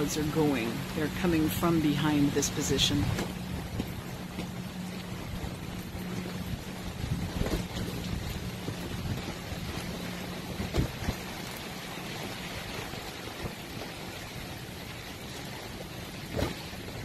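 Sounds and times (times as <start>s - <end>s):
heavy rain pouring: 0.0s - 17.0s
low hum: 0.0s - 17.0s.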